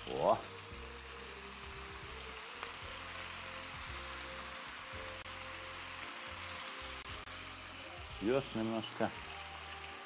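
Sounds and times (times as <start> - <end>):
fish frying in a pan: 0.0 - 10.0.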